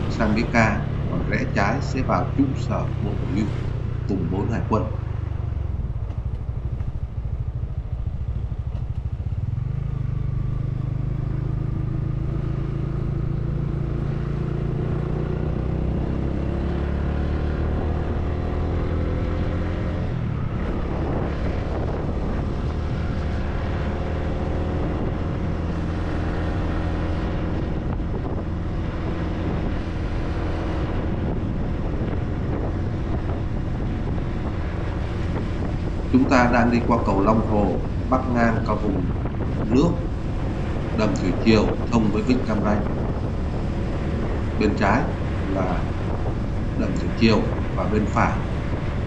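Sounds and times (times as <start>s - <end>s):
motorcycle engine accelerating: 0.0s - 49.0s
rush of noise: 0.0s - 49.0s.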